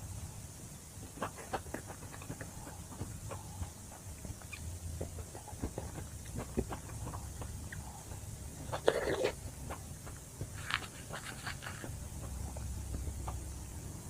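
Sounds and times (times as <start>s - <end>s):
low steady hum: 0.0s - 14.0s
chewing with mouth clicks: 1.1s - 13.4s.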